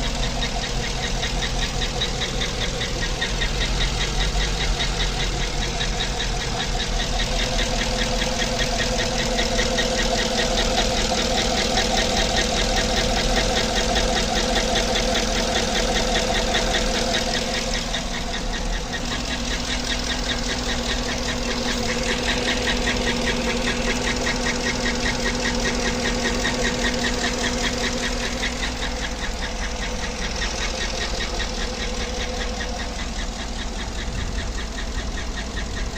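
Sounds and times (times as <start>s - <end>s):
engine running: 0.0s - 35.9s
valvetrain lifter ticking: 0.0s - 35.9s.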